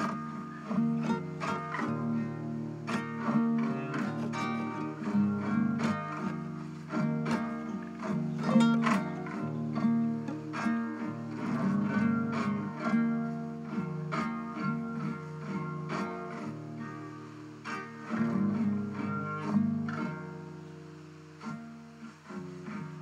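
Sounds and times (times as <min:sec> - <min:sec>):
plucked guitar: 0:00.0 - 0:23.0.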